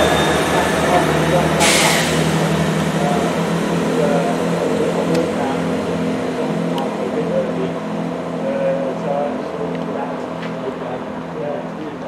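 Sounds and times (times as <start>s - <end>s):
diesel train engines running: 0.0s - 12.0s.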